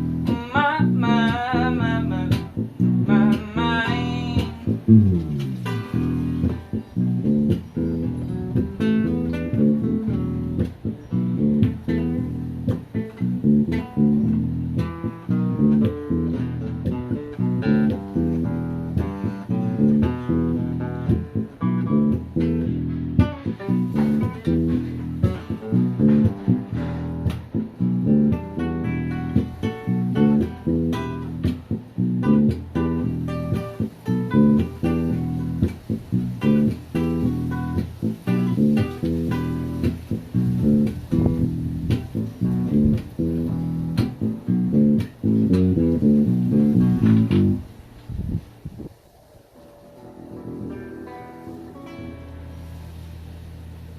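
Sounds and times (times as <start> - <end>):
guitars plucking notes: 0.0 - 48.9, 49.5 - 53.9
bass line: 0.0 - 49.0.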